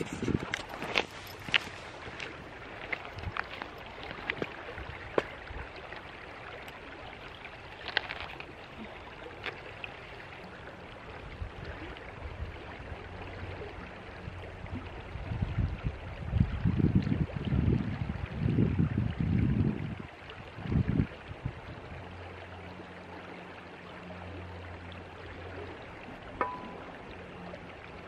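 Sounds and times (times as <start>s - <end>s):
river water flowing over rocks: 0.0s - 16.0s, 20.1s - 28.0s.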